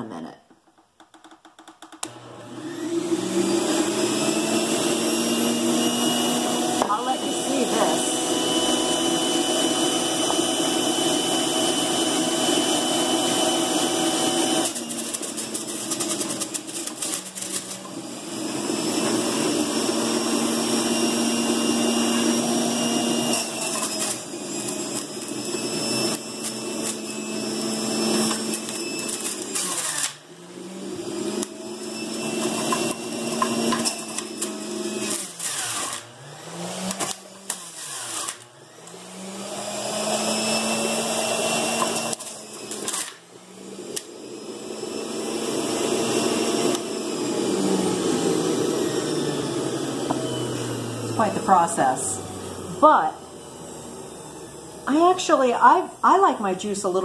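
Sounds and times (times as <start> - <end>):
juicer motor whining: 1.8 - 56.0.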